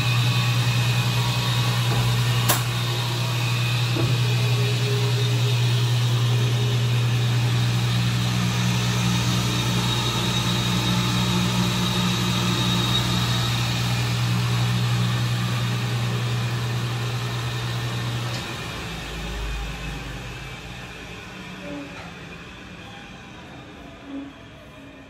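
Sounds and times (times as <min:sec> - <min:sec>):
chop saw motor humming with whine: 0:00.0 - 0:24.6.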